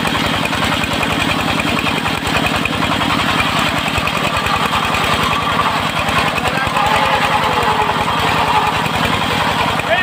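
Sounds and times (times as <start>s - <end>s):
saw rig rushing noise: 0.0s - 10.0s
sawmill engine chugging: 0.0s - 10.0s.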